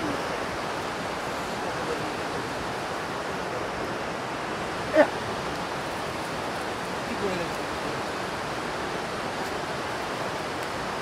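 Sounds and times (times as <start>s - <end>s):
river rapids rushing over boulders: 0.0s - 11.0s.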